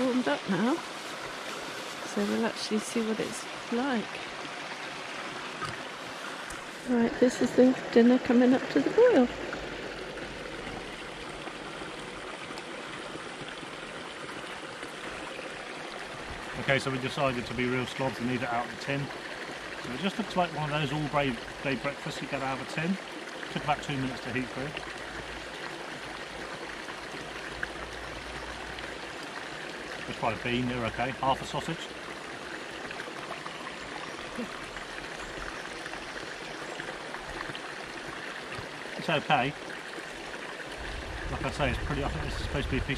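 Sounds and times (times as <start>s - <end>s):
stream running over rocks: 0.0s - 42.9s.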